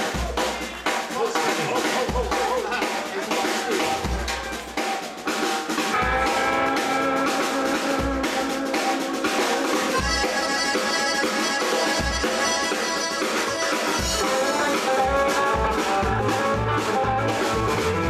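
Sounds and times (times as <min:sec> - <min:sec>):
accordion: 0:00.0 - 0:18.0
deep drum beat: 0:00.0 - 0:18.0
rock band playing: 0:00.0 - 0:18.0.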